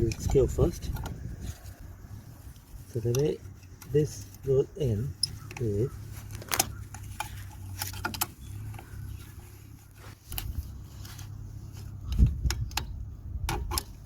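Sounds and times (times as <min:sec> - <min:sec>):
metal brake parts clicking: 0:00.0 - 0:01.8, 0:02.4 - 0:14.0.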